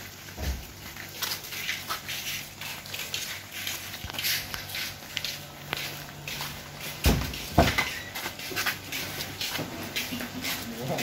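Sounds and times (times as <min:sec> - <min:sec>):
shuffling footsteps: 0:00.2 - 0:11.0.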